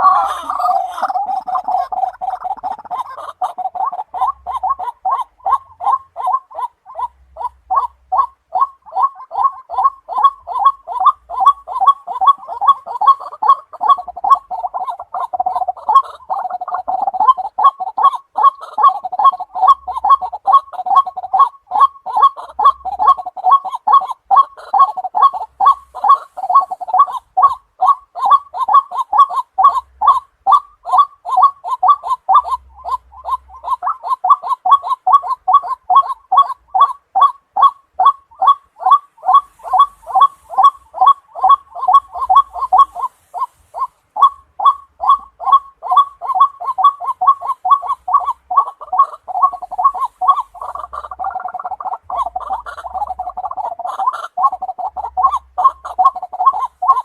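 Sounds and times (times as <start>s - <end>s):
waterhen calling: 0.0s - 57.0s.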